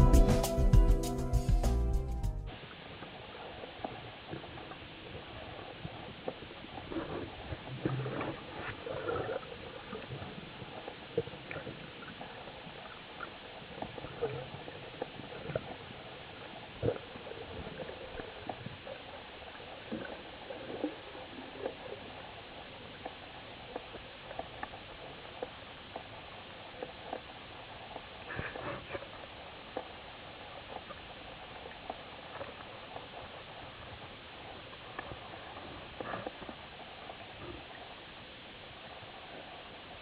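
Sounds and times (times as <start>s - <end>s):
underwater water noise: 2.5s - 40.0s.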